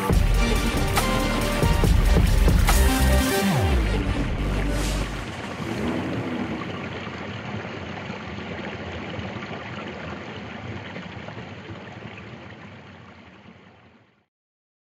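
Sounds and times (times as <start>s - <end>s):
stream water running: 0.0s - 14.3s.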